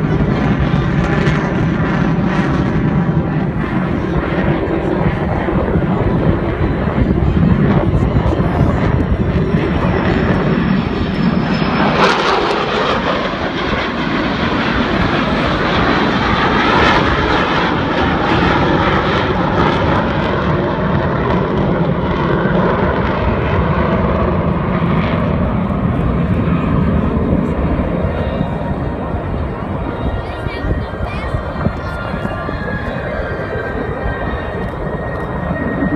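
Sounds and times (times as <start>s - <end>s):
jet engines flying past: 0.0s - 35.9s.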